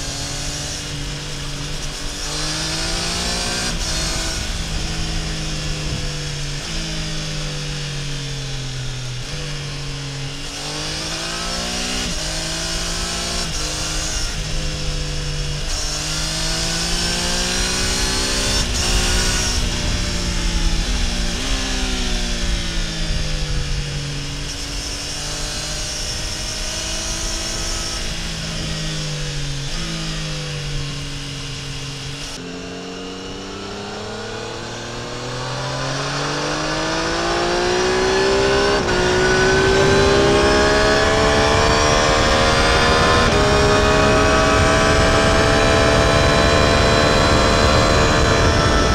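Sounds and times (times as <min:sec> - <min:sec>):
motorcycle engine accelerating: 0:00.0 - 0:48.9
wind and road noise: 0:00.0 - 0:48.9.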